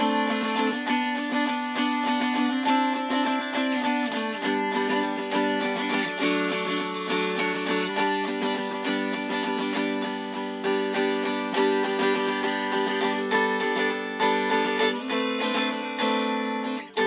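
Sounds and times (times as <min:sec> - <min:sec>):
mountain dulcimer strummed: 0:00.0 - 0:17.0.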